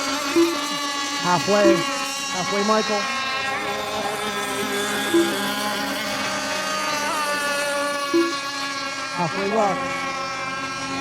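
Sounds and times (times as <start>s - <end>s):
racing boat motors whining: 0.0s - 11.0s.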